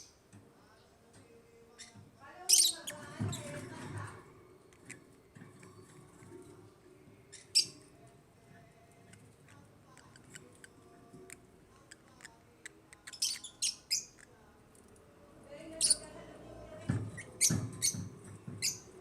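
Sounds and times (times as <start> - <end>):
birds chirping: 1.7 - 14.4, 15.6 - 19.0.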